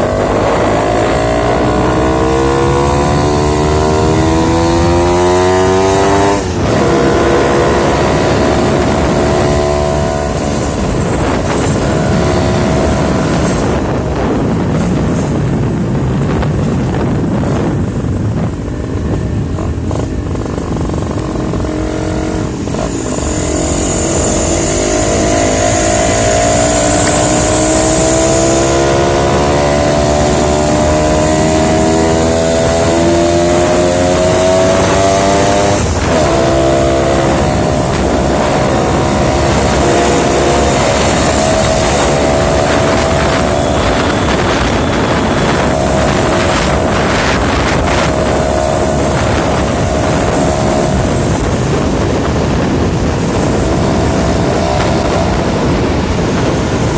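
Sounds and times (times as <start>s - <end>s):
two-stroke motorcycle engine: 0.0s - 56.9s.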